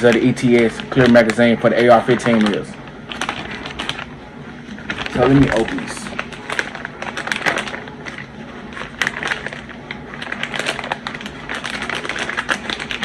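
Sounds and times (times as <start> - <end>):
packaging crinkling and clicking: 0.0 - 13.0.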